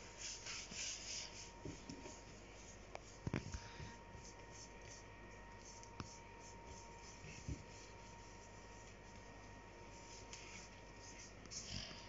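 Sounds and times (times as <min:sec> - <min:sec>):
dough rubbing on tablecloth: 0:00.0 - 0:11.7.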